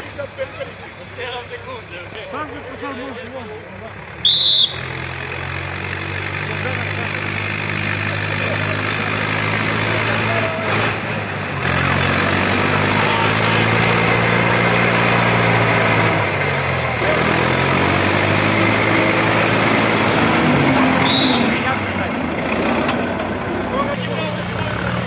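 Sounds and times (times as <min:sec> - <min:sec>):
diesel tractor engine running hard: 0:00.0 - 0:25.0.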